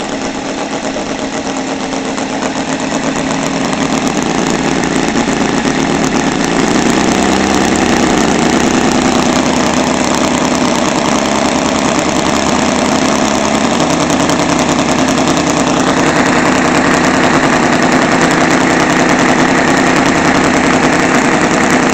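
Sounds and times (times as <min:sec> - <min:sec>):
radial model engine running: 0:00.0 - 0:21.9.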